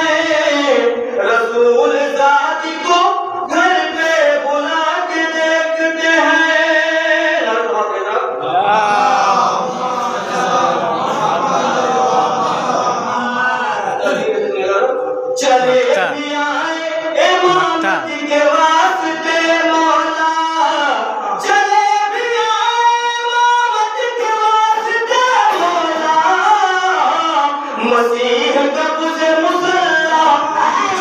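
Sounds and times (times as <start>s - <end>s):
man singing through microphone: 0.0s - 12.2s, 12.9s - 31.0s.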